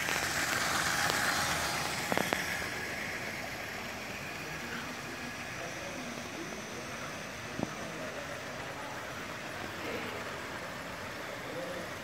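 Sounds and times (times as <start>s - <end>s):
constant hiss: 0.0s - 12.0s
faint indistinct voices: 2.1s - 12.0s.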